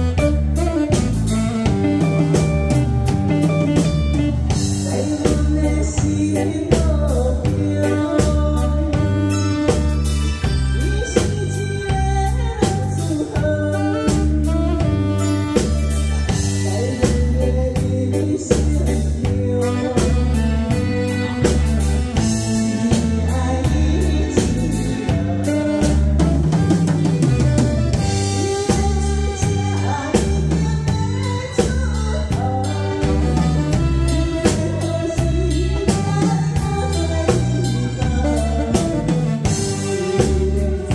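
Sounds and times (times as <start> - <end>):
live band playing: 0.0 - 40.9
woman singing into microphone: 3.4 - 9.9, 10.7 - 27.4, 28.0 - 40.9.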